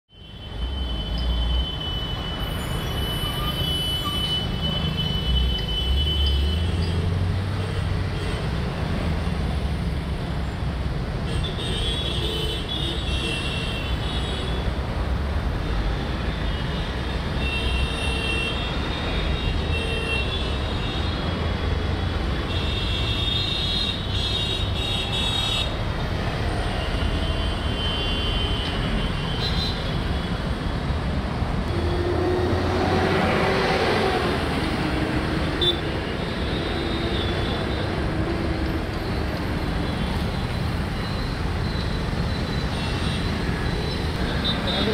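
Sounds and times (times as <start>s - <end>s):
heavy road traffic rumble: 0.1s - 44.9s.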